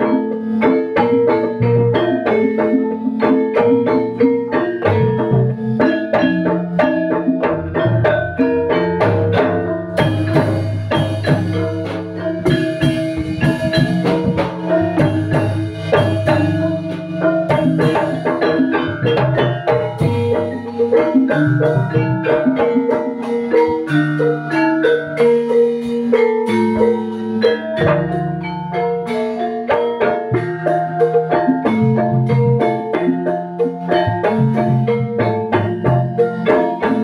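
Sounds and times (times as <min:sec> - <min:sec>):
gamelan keys and pot gongs: 0:00.0 - 0:37.0.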